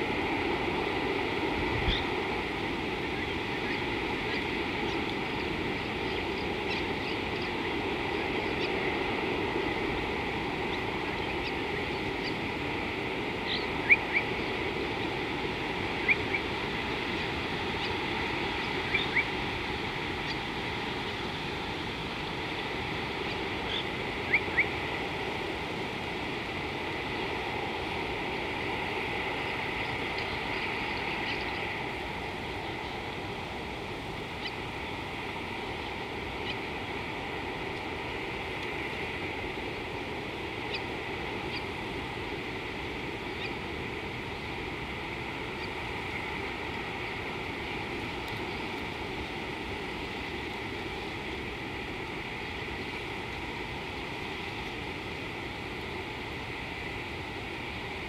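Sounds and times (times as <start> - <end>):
steady rushing outdoor noise: 0.0 - 58.0.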